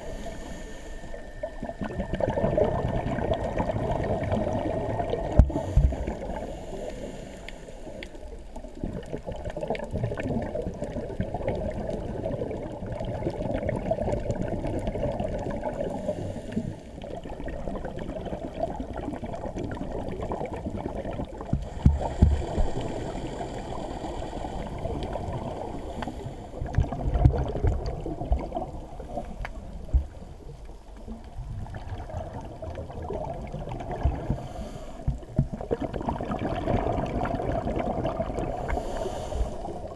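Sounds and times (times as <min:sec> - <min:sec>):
regulator bubbles gurgling: 0:00.0 - 0:07.1, 0:07.8 - 0:39.9
underwater rushing water: 0:00.0 - 0:39.9.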